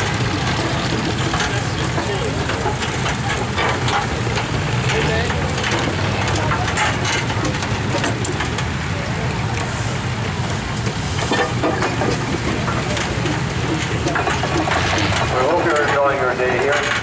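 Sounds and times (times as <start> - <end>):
steam traction engine running: 0.0 - 17.0.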